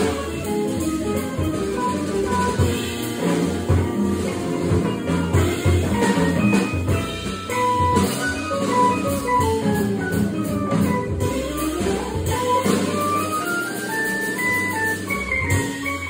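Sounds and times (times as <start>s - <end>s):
drum kit: 0.0s - 16.0s
electric guitar melody: 0.0s - 16.0s
low bass notes: 0.0s - 16.0s.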